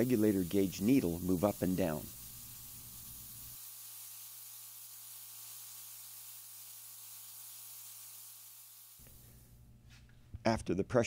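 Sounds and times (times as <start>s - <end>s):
air blow gun hissing: 0.0s - 9.5s.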